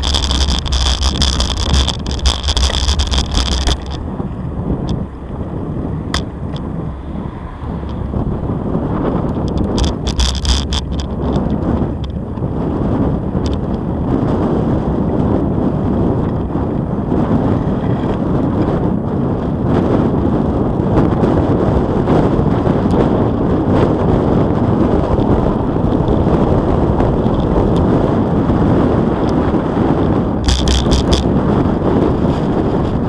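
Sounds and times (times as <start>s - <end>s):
tyre and road rumble: 0.0s - 33.0s
wind buffeting microphone: 0.0s - 33.0s.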